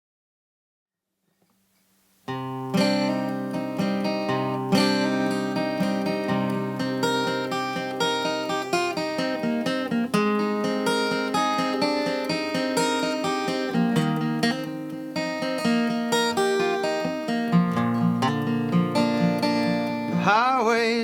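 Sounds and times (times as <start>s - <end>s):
acoustic guitar strumming: 2.3s - 21.0s.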